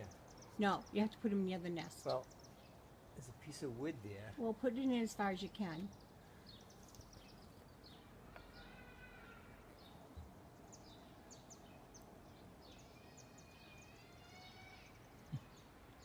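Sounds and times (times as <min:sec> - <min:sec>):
faint songbirds chirping: 0:00.0 - 0:16.0
quiet background noise: 0:00.0 - 0:16.0.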